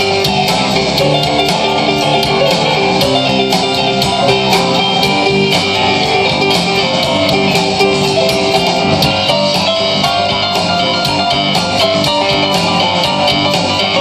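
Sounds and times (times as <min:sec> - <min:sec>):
acoustic guitar strumming: 0:00.0 - 0:14.0
drums: 0:00.0 - 0:14.0
electric guitar: 0:00.0 - 0:14.0
keyboard: 0:00.0 - 0:14.0.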